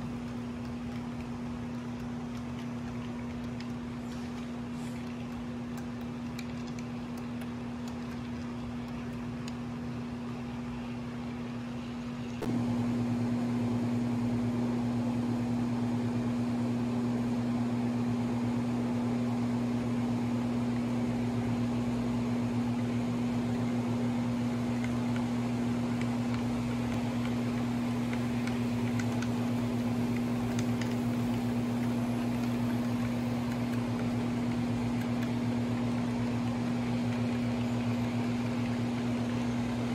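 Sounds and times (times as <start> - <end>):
fan or motor hum: 0.0 - 39.9.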